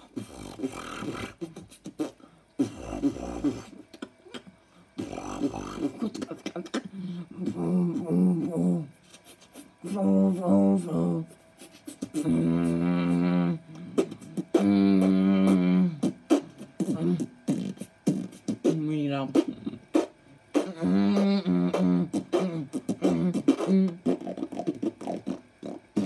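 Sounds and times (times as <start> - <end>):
boy beatboxing: 0.0 - 26.0.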